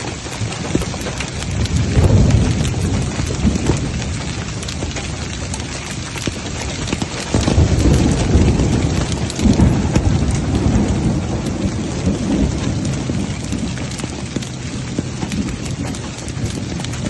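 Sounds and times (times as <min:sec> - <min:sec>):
drops ticking on a surface: 0:00.0 - 0:17.0
heavy rain pouring: 0:00.0 - 0:17.0
deep rumble: 0:01.3 - 0:17.0.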